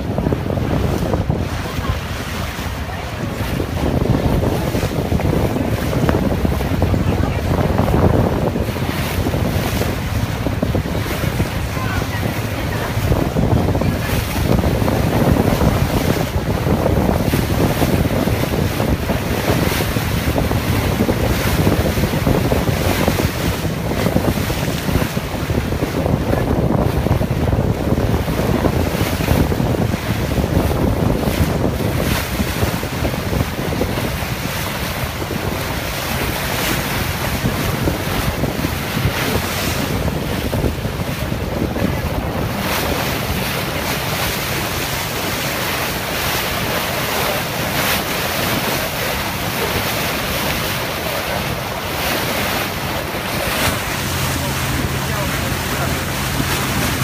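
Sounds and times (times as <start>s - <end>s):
boat wake rushing along hull: 0.0s - 57.0s
wind buffeting microphone: 0.0s - 57.0s.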